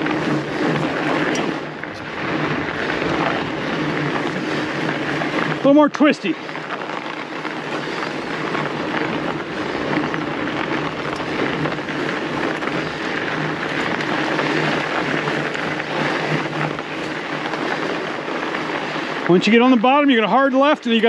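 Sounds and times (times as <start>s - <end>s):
bike rumble: 0.0s - 21.0s
tyres crunching on snow: 0.0s - 21.0s.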